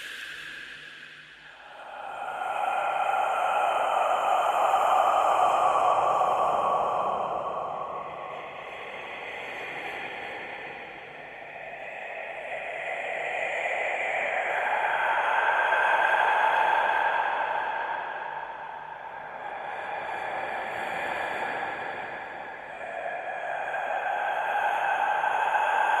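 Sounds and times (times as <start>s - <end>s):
breathy whisper hiss: 0.0s - 26.0s.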